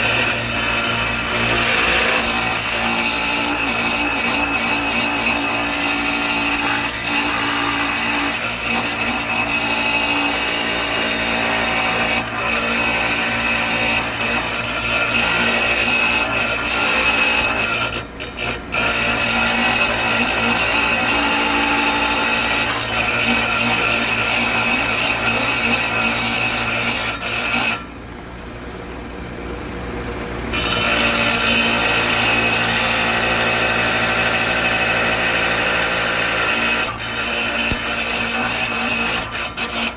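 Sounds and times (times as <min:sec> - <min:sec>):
power tool grinding stone: 0:00.0 - 0:28.0, 0:30.5 - 0:39.9.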